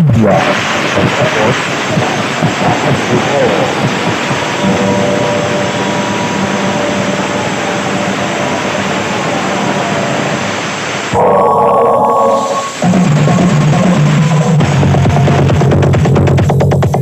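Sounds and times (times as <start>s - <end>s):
music: 0.0s - 17.0s
sound system hiss: 0.0s - 17.0s
harsh mid-pitched buzz: 0.1s - 15.8s.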